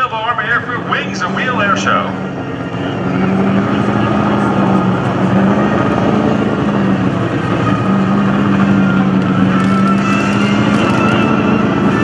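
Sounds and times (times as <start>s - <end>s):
high whine: 0.0s - 12.0s
propeller airplane engine drone: 0.0s - 12.0s.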